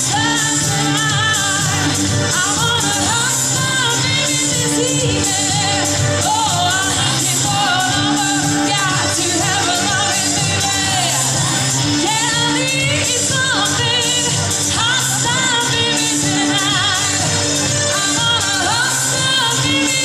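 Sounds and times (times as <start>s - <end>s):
loud music through speakers: 0.0s - 20.0s
woman singing into microphone: 0.0s - 20.0s.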